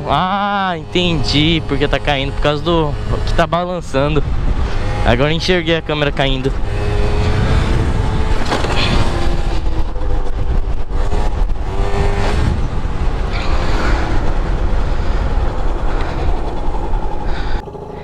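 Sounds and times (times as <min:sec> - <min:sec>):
scooter engine revving: 0:00.0 - 0:18.0
wind rumble on microphone: 0:00.0 - 0:18.0.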